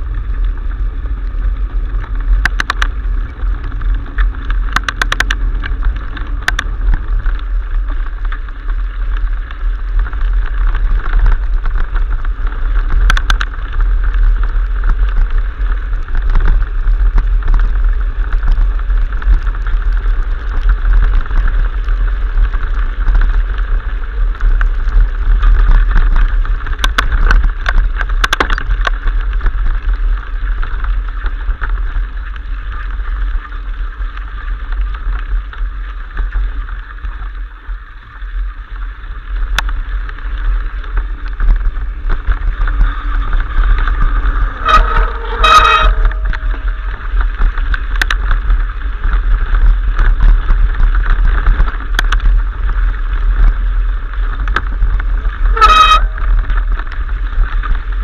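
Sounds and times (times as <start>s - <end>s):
bike tyre rattle: 0.0s - 58.0s
wind rushing over microphone: 0.0s - 58.0s.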